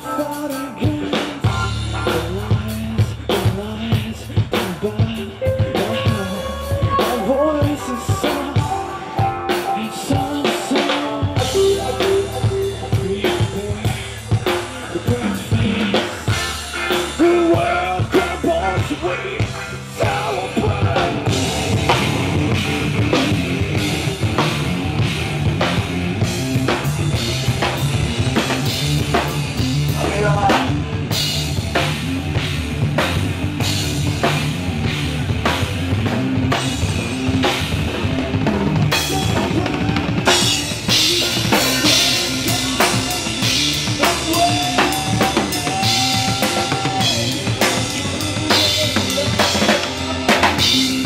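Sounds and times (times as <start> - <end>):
pounding drum kit: 0.0 - 51.0
rock band playing live: 0.0 - 51.0.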